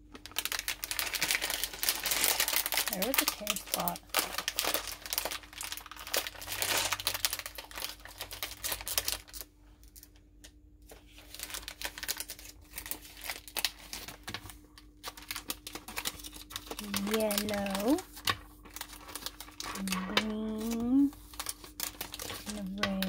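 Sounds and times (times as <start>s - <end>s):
candy bag tearing and crinkling: 0.0s - 10.2s, 10.9s - 23.0s.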